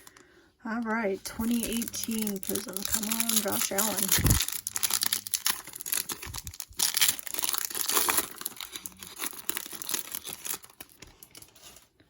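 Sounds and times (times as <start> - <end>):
plastic wrapper crinkling: 0.8 - 11.9.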